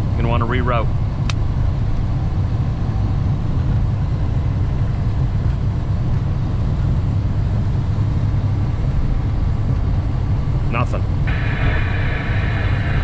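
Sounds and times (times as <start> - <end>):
diesel truck engine drone: 0.0 - 13.0.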